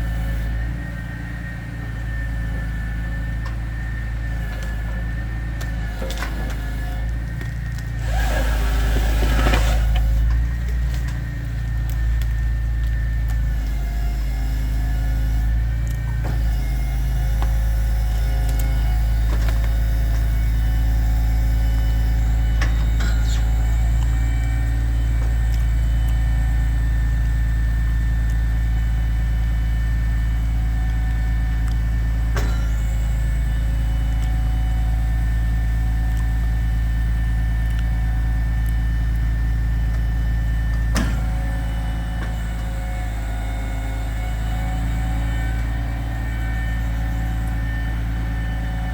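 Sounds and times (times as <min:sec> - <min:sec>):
truck engine running: 0:00.0 - 0:48.9.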